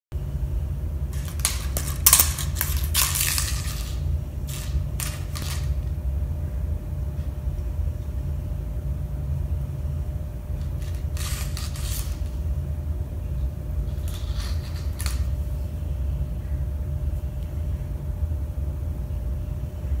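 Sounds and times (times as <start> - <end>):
steady low hum: 0.1 - 20.0.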